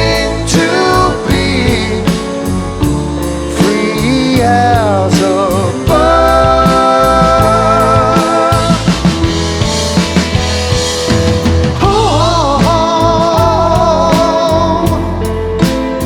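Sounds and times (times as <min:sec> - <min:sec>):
drum kit hits: 0:00.0 - 0:16.0
steady bass: 0:00.0 - 0:16.0.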